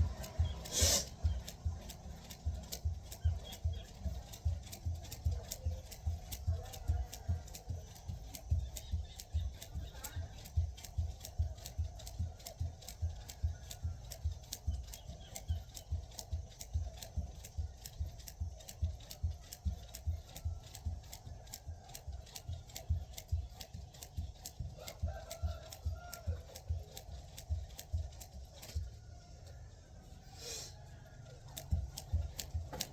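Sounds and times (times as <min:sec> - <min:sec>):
jump rope ticking on ground: 0:00.0 - 0:29.5, 0:31.2 - 0:32.9.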